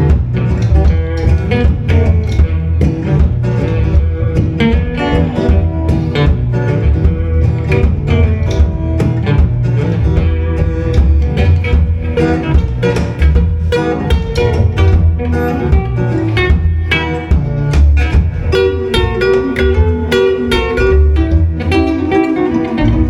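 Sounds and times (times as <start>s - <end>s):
bass line: 0.0s - 23.0s
guitar: 0.0s - 23.0s
live band playing: 0.0s - 23.0s.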